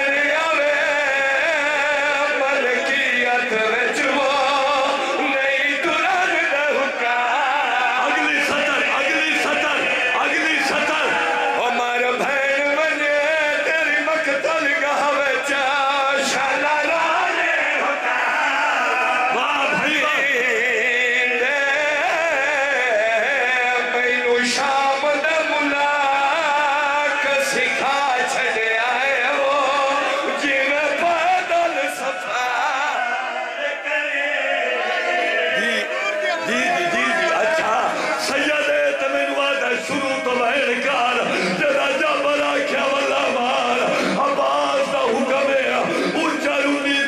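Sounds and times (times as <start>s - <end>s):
men singing a chant: 0.0s - 47.0s.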